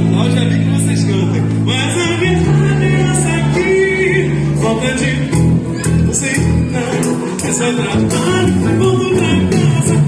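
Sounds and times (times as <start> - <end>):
live band playing: 0.0 - 10.0
person singing: 1.7 - 10.0.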